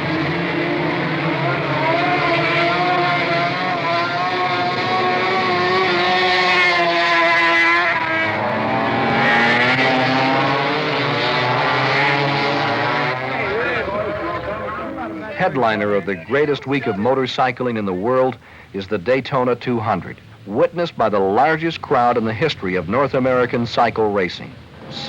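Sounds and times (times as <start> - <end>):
racing motorcycle engines: 0.0 - 18.2, 21.2 - 25.0.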